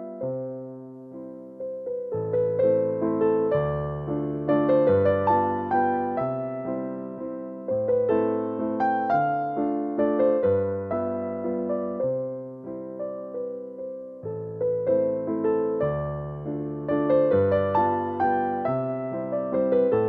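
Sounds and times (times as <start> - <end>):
gentle piano piece: 0.0 - 20.0.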